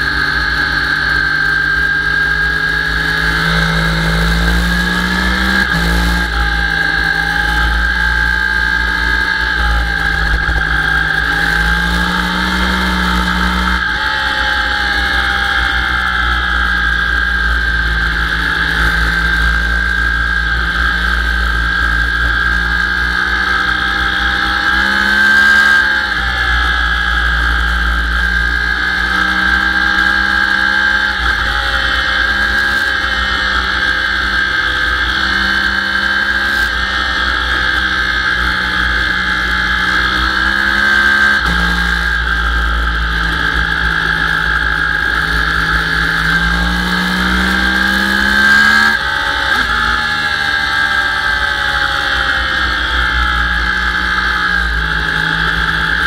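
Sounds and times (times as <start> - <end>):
motorcycle engine revving hard: 0.0 - 56.0.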